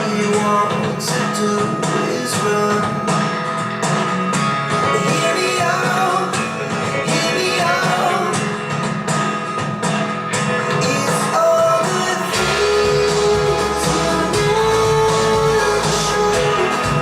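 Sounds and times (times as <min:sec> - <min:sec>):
song over speakers: 0:00.0 - 0:17.0.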